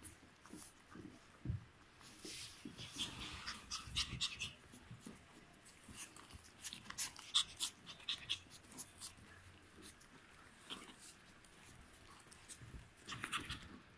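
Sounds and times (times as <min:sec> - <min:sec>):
puppies scuffling: 0:00.0 - 0:13.9
puppies breathing: 0:02.0 - 0:13.9.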